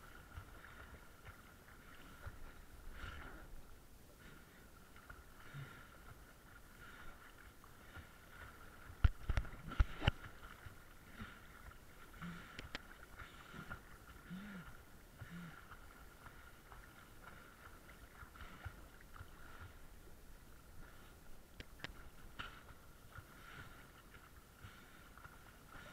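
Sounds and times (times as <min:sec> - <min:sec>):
sea water lapping and sloshing: 0:00.0 - 0:25.9.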